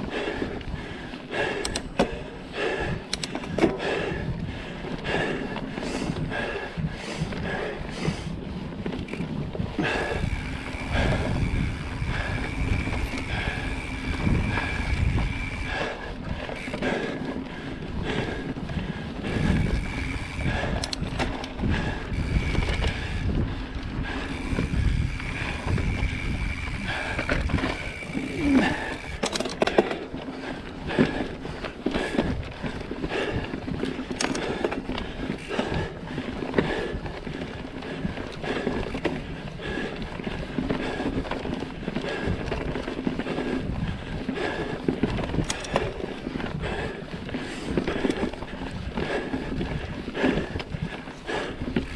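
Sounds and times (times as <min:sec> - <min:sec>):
bike rattling: 0:00.0 - 0:51.9
bike tyres rumbling on dirt: 0:00.0 - 0:51.9.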